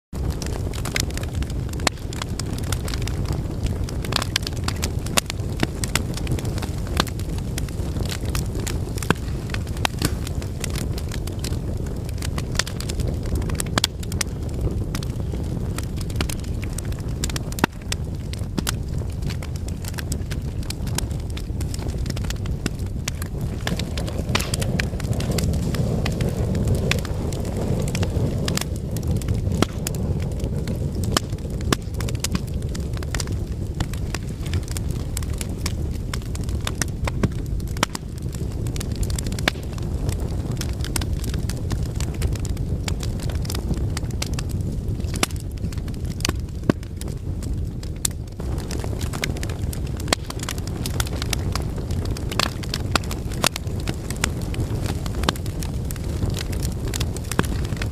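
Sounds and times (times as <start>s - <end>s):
fire crackling and popping: 0.1s - 57.9s
flames rumbling: 0.1s - 57.9s.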